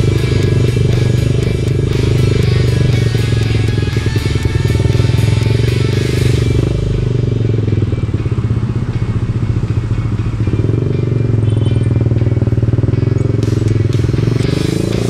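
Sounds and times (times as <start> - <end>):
scooter engine exhaust drone: 0.0 - 15.0.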